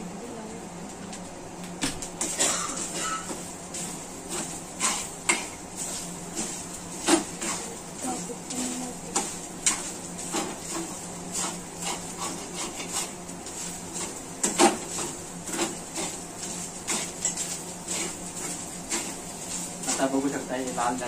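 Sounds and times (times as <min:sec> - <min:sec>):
spoon scraping frying pan: 0:02.2 - 0:07.8, 0:08.5 - 0:20.0.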